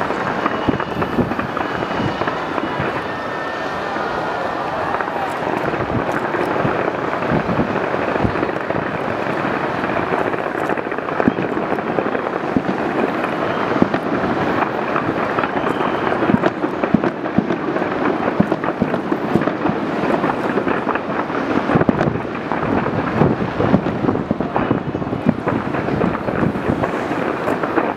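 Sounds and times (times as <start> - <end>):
fireworks bangs: 0.0 - 27.9
fireworks crackle and rumble: 0.0 - 27.9.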